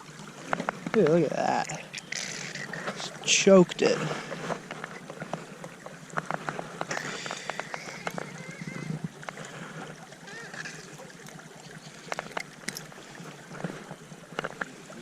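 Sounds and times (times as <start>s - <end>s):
small stream rushing: 0.0s - 15.0s.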